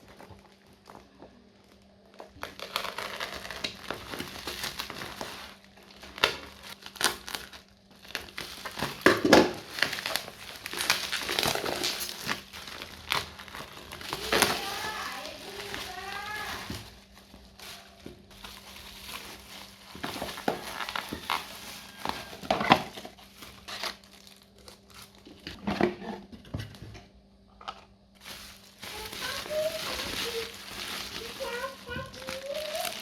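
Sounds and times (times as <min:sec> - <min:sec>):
packaging crinkling and rustling: 0:00.0 - 0:33.0.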